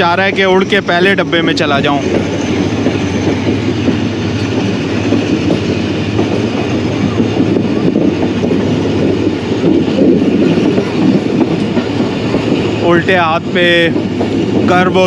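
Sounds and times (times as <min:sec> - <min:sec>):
diesel locomotive chugging: 0:00.0 - 0:15.0
train wheels rumbling on track: 0:00.0 - 0:15.0.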